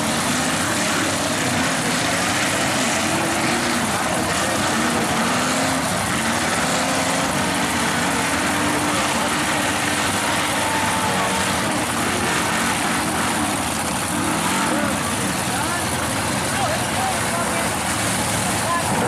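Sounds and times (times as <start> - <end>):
truck engines revving high: 0.0 - 19.0.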